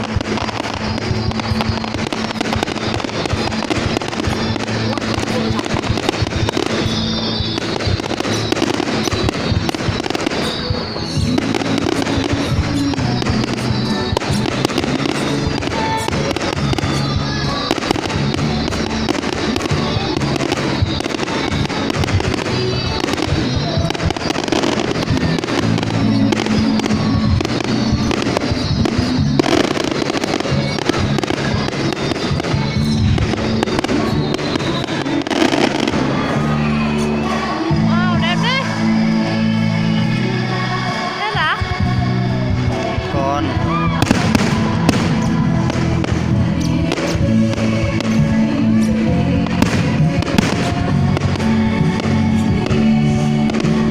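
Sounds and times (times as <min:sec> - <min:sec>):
fireworks bangs and crackles: 0:00.0 - 0:53.9
music: 0:00.0 - 0:53.9.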